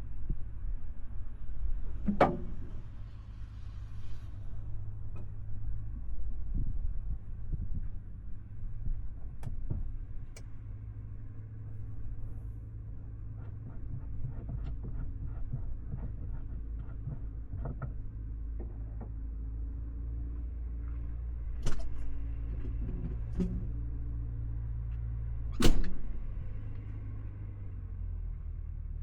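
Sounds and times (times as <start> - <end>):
truck engine idling: 2.2 - 29.0.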